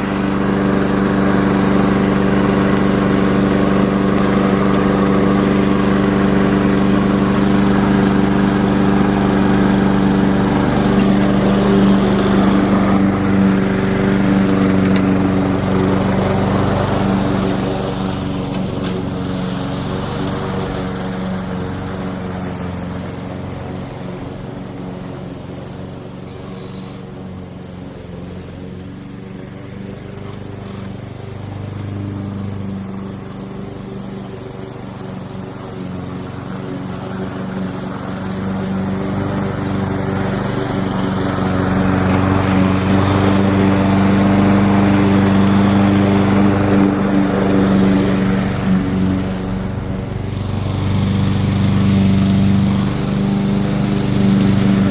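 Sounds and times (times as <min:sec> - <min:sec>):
lawn mower engine running: 0:00.0 - 0:54.9.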